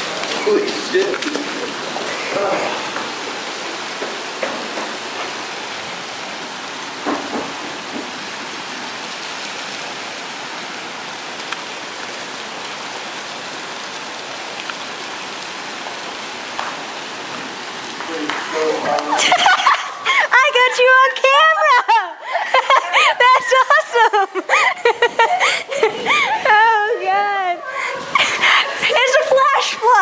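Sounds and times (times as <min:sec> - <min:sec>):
heavy rain on pavement and cars: 0:00.0 - 0:30.0
loud rain splats: 0:00.0 - 0:30.0.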